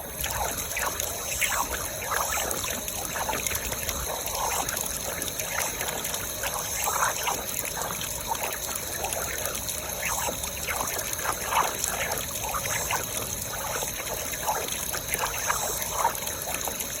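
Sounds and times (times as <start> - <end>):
steady hiss from leaking valve: 0.0 - 17.0
water trickling and gurgling: 0.0 - 17.0.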